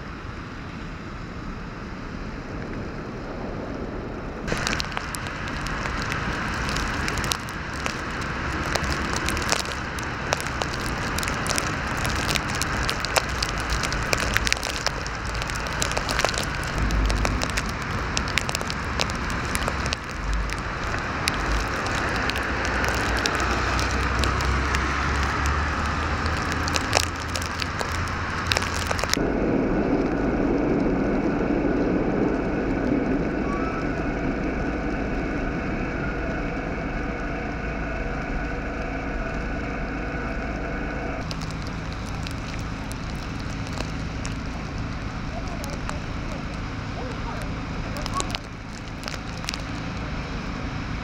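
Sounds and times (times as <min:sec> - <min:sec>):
low rumble: 0:00.0 - 0:51.0
snowfall hiss with crackling ticks: 0:00.0 - 0:51.0.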